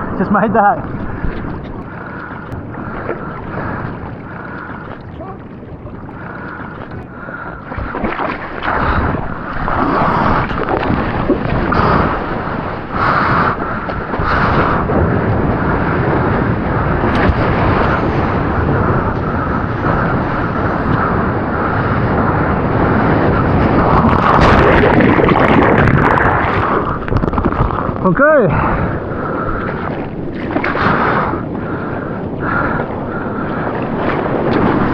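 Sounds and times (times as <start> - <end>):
breaking surf roar: 0.0 - 34.9
wind buffeting microphone: 0.0 - 34.9.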